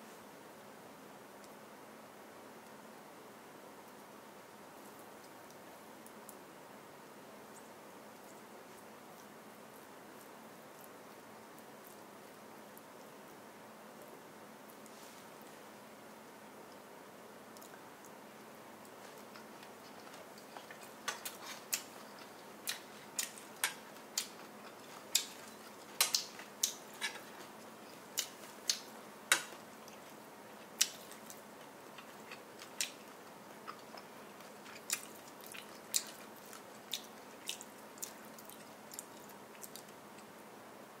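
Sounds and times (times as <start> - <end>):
faint steady hiss: 0.0 - 41.0.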